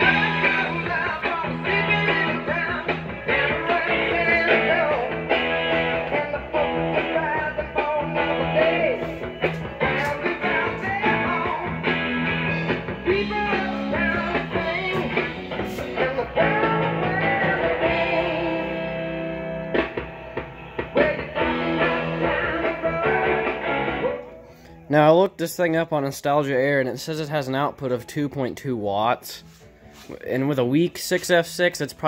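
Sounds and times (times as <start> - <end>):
rock and roll song from old radio: 0.0 - 32.0.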